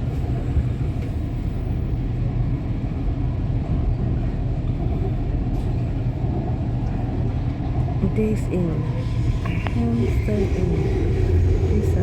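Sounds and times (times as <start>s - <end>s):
train car rumbling on track: 0.0s - 12.0s.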